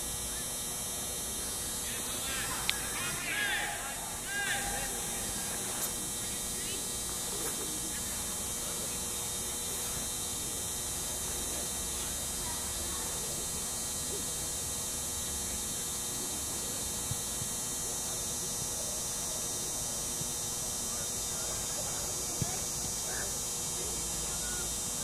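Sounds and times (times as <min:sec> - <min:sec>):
faint distant voices: 0:00.0 - 0:25.0
steady hum with hiss: 0:00.0 - 0:25.0.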